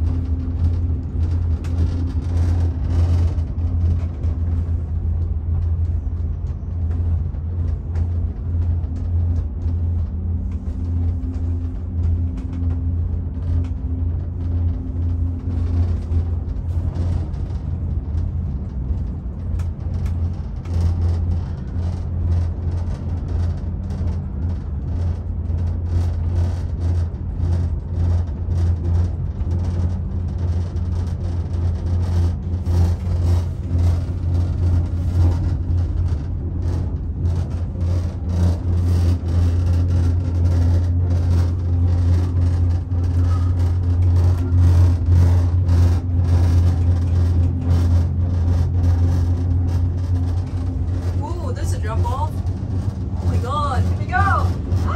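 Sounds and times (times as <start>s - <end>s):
cable car cabin rumble and hum: 0.0s - 54.9s
light clicking and rattling: 0.0s - 54.9s.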